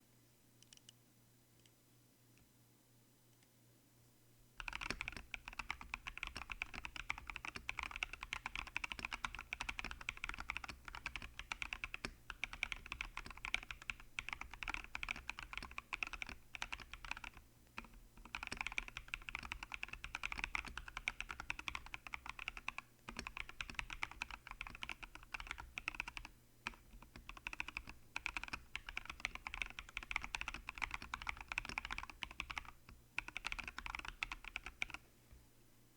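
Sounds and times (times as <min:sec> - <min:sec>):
mechanical keyboard typing: 0:04.6 - 0:35.0.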